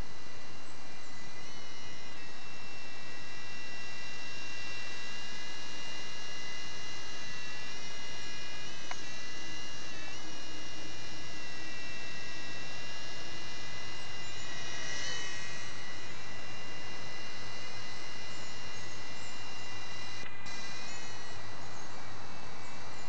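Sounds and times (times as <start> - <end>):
toy helicopter rotor whine: 0.0 - 23.0.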